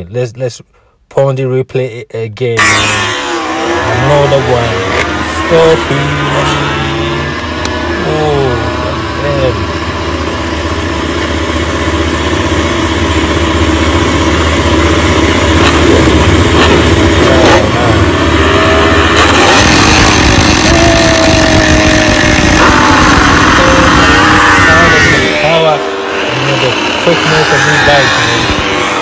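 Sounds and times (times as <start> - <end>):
race motorcycles revving: 2.6 - 29.0.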